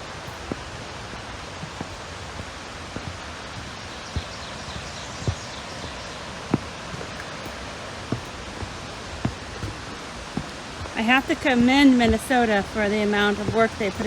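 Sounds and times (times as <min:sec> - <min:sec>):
footsteps on forest trail: 0:00.0 - 0:14.0
waterfall rushing: 0:00.0 - 0:14.0.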